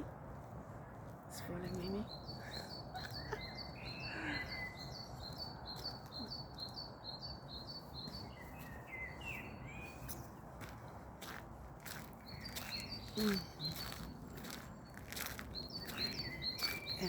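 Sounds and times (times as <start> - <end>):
outdoor background noise: 0.0 - 17.0
longer bird calls: 1.6 - 11.0, 11.8 - 17.0.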